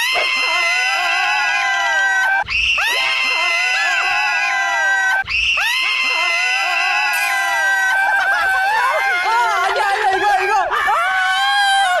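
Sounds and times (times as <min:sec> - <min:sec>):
high voices screaming: 0:00.0 - 0:09.9.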